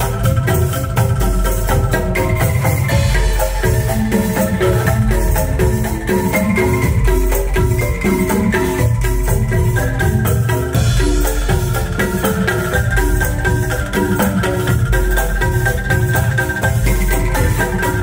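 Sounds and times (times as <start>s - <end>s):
bamboo percussion notes: 0.0s - 18.0s
low bass line: 0.0s - 18.0s.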